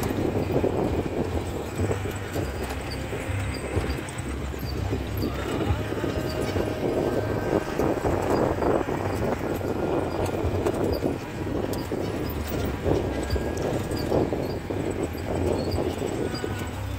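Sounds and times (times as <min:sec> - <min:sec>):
jeep engine running: 0:00.0 - 0:16.9
vehicle body rattling and knocking: 0:00.0 - 0:16.9.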